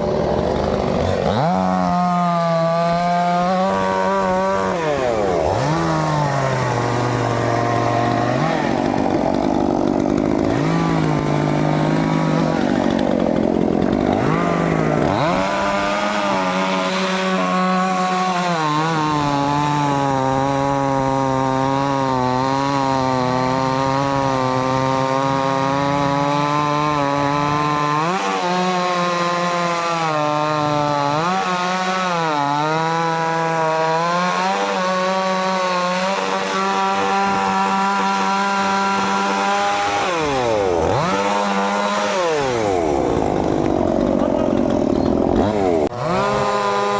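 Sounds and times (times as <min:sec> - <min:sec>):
chainsaw cutting into tree: 0:00.0 - 0:46.9.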